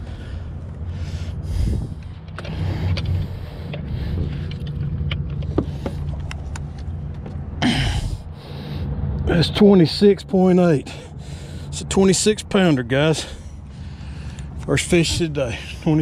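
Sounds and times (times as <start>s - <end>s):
boat motor hum: 0.0s - 16.0s.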